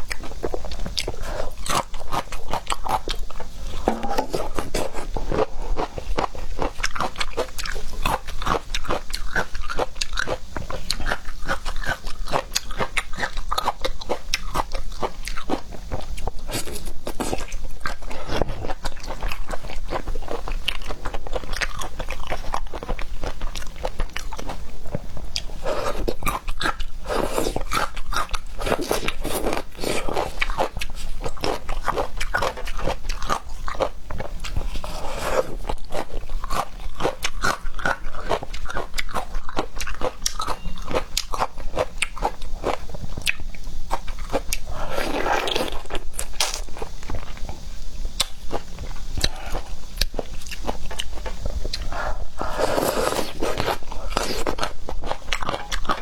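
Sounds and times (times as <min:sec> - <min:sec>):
person chewing seafood: 0:00.0 - 0:47.5, 0:48.1 - 0:56.0.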